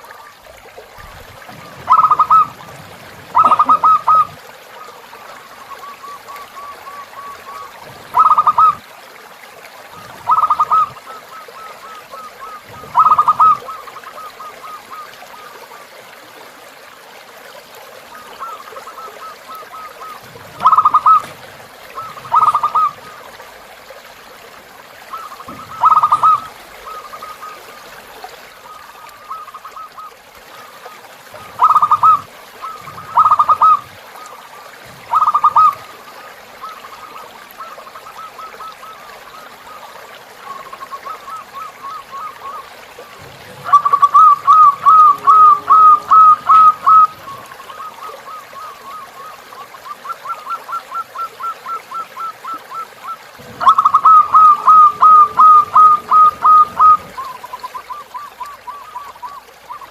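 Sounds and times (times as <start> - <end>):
river flowing: 0.0 - 59.9
doves cooing: 1.1 - 8.9, 9.9 - 15.6, 18.1 - 24.2, 25.1 - 59.9.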